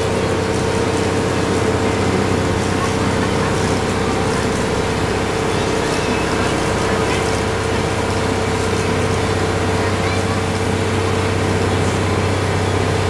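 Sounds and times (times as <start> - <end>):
ride train engine droning: 0.0 - 13.0
train rolling along: 0.0 - 13.0.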